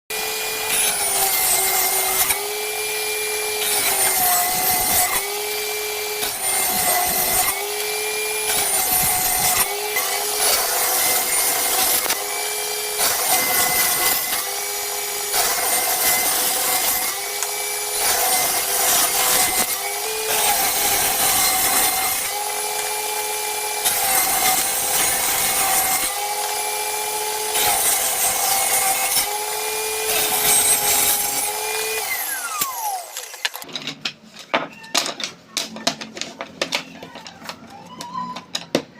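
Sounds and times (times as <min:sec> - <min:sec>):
table saw cutting plywood: 0:00.1 - 0:33.7.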